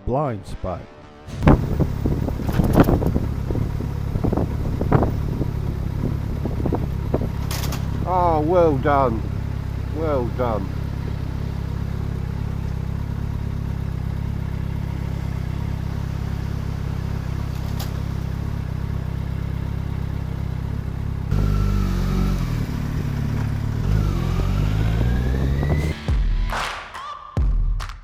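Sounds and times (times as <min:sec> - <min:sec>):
engine revving: 0:00.0 - 0:27.0
motorcycle engine running: 0:00.9 - 0:26.3.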